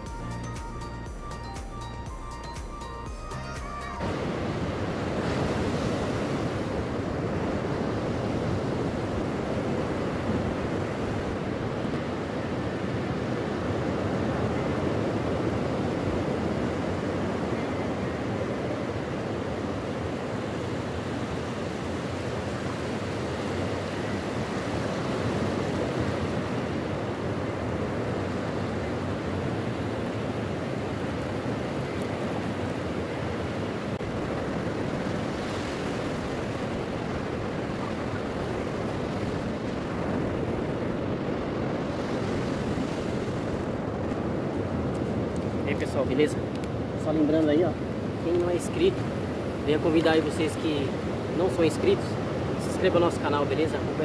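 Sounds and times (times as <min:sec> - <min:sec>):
wind on microphone: 0:04.0 - 0:53.1
ocean surf breaking on beach: 0:04.0 - 0:54.0.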